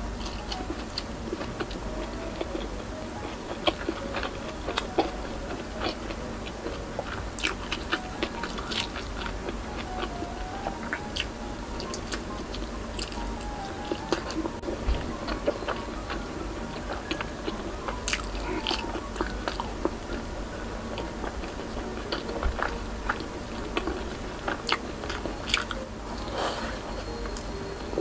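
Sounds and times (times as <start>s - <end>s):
person chewing: 0.0s - 28.0s.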